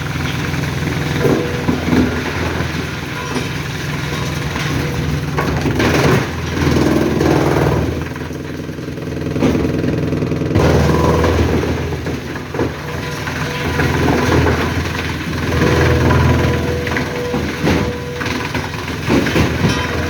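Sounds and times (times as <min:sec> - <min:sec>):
wood chipper engine running: 0:00.0 - 0:20.0.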